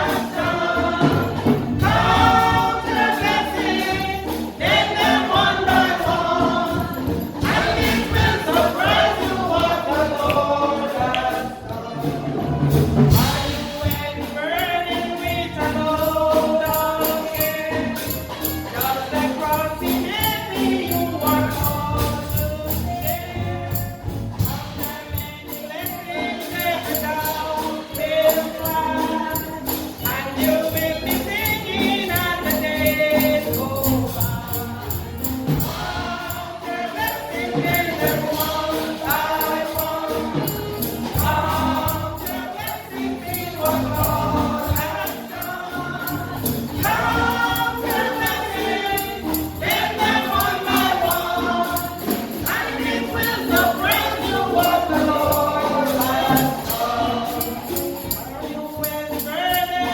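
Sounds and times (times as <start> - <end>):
group of voices singing gospel: 0.0 - 59.9
tambourine shaken in a beat: 0.0 - 59.9.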